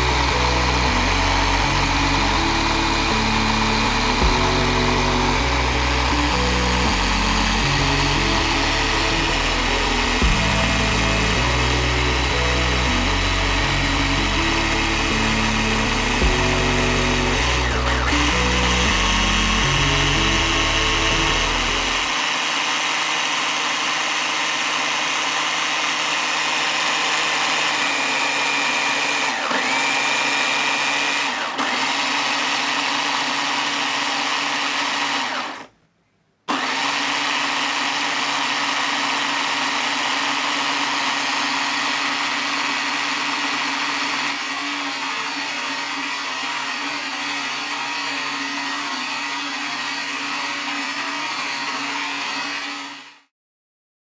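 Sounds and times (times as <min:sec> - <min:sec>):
electric whirring of toy car: 0:00.0 - 0:35.7, 0:36.5 - 0:53.3.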